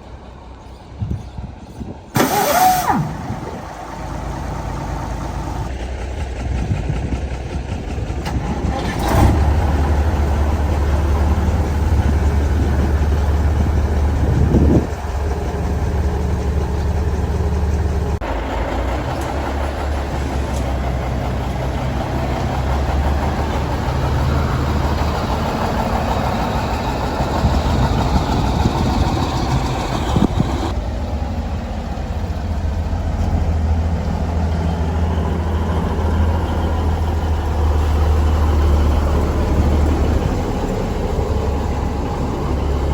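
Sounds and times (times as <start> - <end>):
truck engines rumbling: 0.0 - 42.9.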